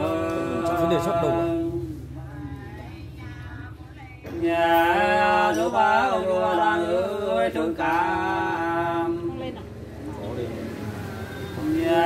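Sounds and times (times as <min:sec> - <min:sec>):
lower singing voice: 0:00.0 - 0:09.9, 0:10.7 - 0:12.0
unaccompanied folk singing: 0:00.0 - 0:12.0.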